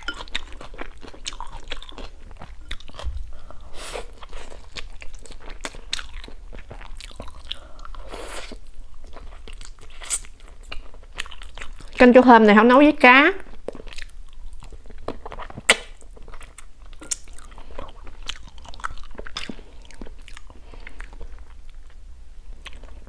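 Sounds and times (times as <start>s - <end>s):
person chewing crunchy food: 0.0s - 12.0s, 13.5s - 23.0s.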